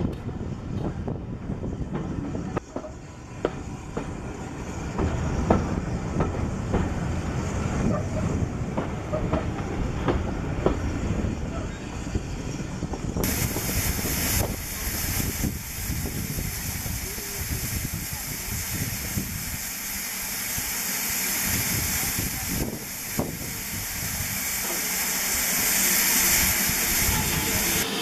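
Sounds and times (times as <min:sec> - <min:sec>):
steam hissing: 0:02.0 - 0:28.0.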